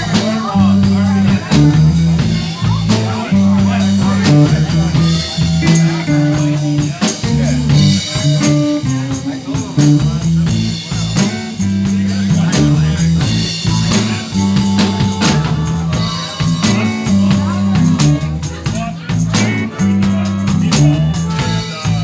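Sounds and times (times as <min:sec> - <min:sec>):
drum kit: 0:00.0 - 0:22.0
electric bass line: 0:00.0 - 0:22.0
electric guitar: 0:00.0 - 0:22.0.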